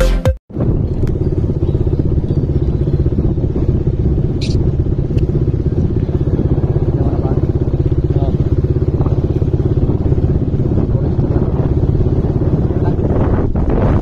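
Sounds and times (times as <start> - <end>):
small motorcycle engine running: 0.6 - 14.0.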